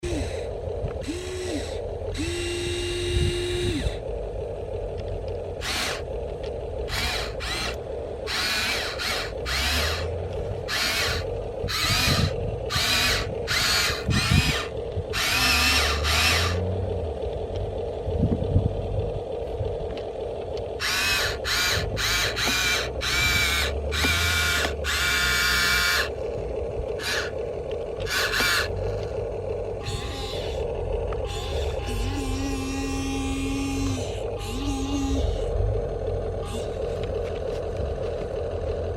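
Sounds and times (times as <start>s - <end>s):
steady hum: 0.0s - 38.9s
toy gear motors whirring: 0.0s - 38.9s.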